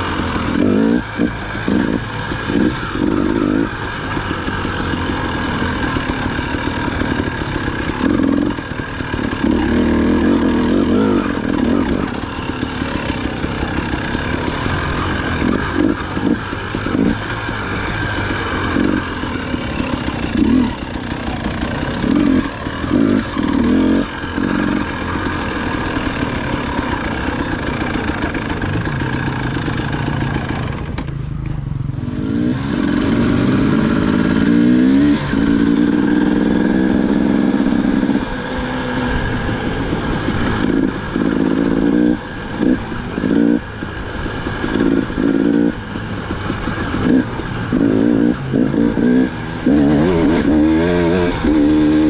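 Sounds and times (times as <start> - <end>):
dirt bike engine revving: 0.0 - 31.1, 31.7 - 52.0.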